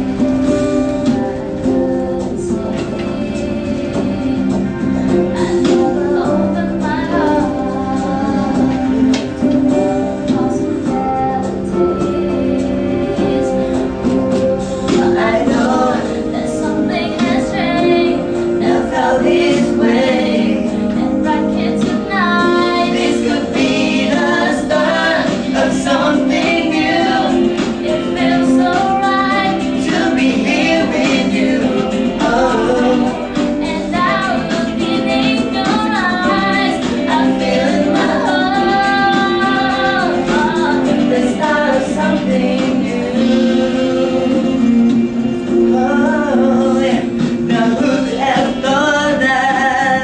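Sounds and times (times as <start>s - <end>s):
instrumental backing: 0.0s - 50.0s
woman singing: 0.0s - 50.0s.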